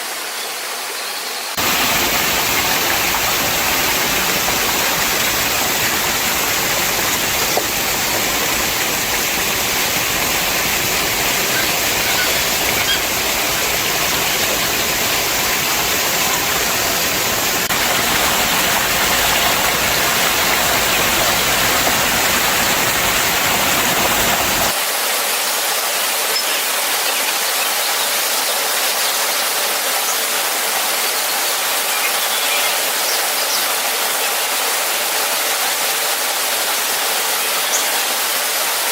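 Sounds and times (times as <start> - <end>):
rush of falling water: 0.0 - 38.9.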